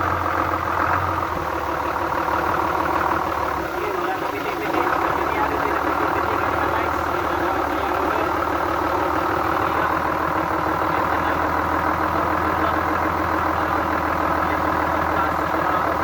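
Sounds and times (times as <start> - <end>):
engine idling with ticking knock: 0.0 - 16.0.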